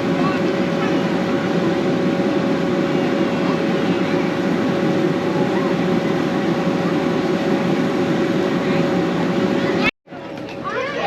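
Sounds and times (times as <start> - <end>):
electric blower fan drone: 0.0 - 11.0.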